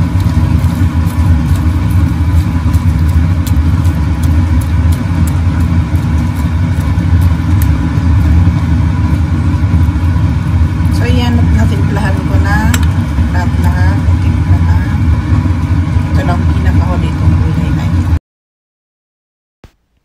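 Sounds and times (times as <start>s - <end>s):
machinery rumbling: 0.0s - 18.2s.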